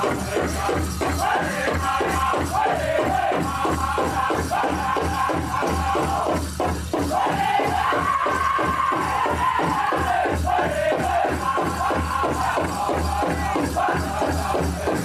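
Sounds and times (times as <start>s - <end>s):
group singing in unison: 0.0s - 15.0s
large drum beating: 0.0s - 15.0s.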